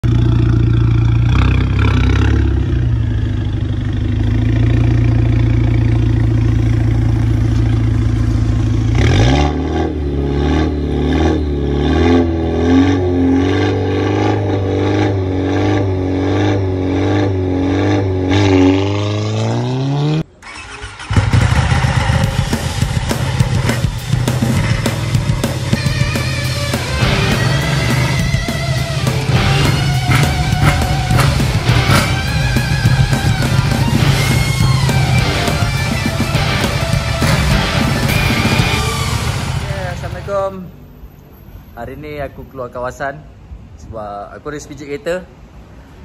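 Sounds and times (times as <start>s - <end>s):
car engine idling and revving: 0.0s - 41.7s.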